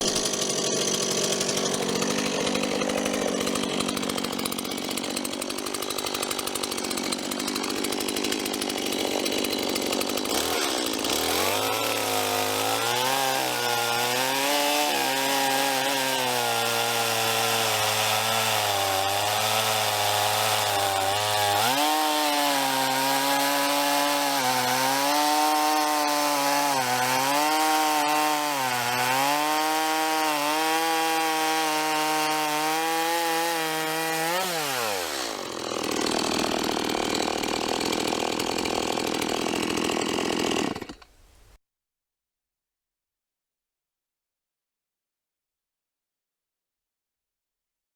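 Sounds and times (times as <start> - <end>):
chainsaw cutting a log: 0.0 - 41.6.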